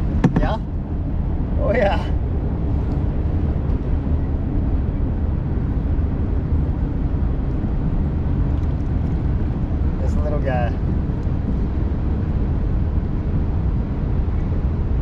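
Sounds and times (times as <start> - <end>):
wind buffeting the microphone: 0.0 - 15.0.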